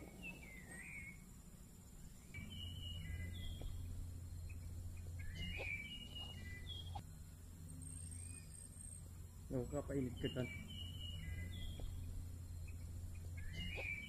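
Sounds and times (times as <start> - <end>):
birds chirping and whistling: 0.0 - 14.0
low steady rumble: 0.0 - 14.0.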